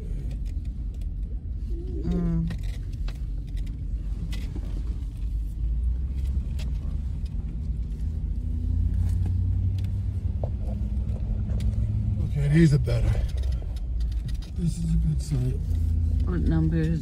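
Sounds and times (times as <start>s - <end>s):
truck engine and tyre rumble: 0.0s - 17.0s.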